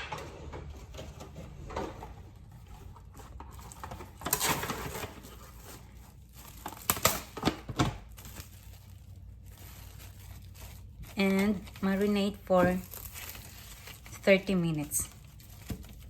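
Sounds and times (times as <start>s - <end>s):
cling wrap crinkling: 2.2s - 16.0s.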